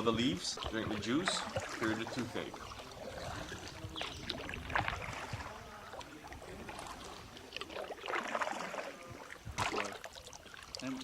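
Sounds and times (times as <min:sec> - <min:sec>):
kayak paddles splashing: 0:00.0 - 0:11.0
water trickling off paddles: 0:00.0 - 0:11.0.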